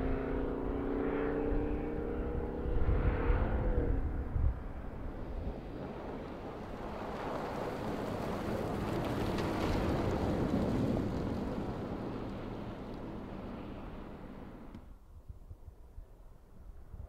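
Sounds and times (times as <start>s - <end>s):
car driving past over snow: 0.0s - 14.8s.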